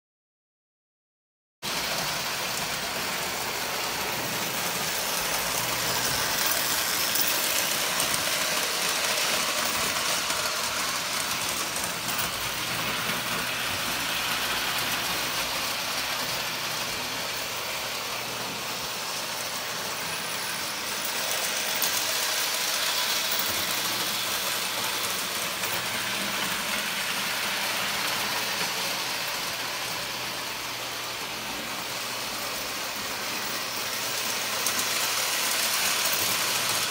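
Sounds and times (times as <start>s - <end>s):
toy train electric motor whir: 1.7s - 36.9s.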